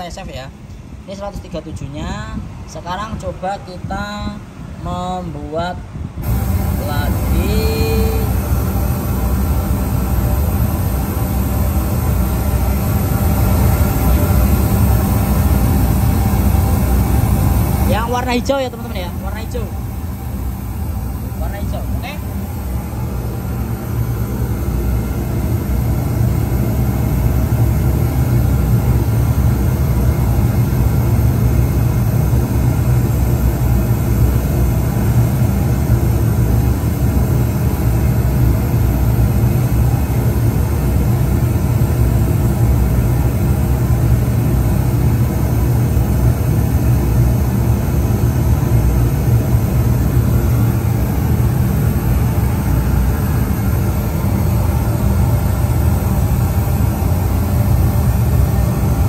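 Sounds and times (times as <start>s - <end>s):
bass-heavy noise test signal: 0.0s - 59.0s.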